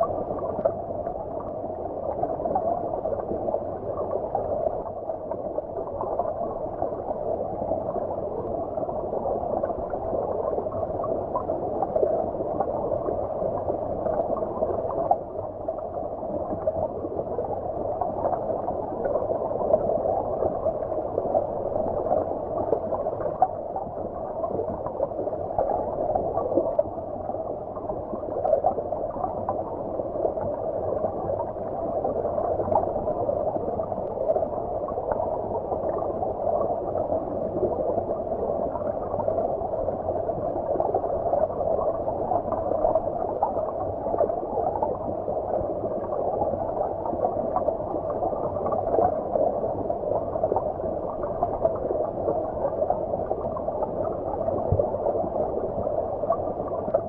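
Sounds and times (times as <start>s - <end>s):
muffled underwater stream rush: 0.0s - 57.0s.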